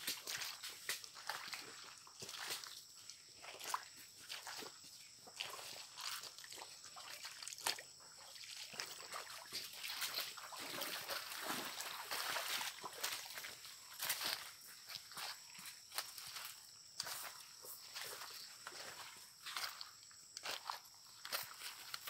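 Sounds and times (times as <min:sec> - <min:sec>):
footsteps on muddy ground: 0:00.0 - 0:22.0
stream trickling: 0:00.0 - 0:22.0.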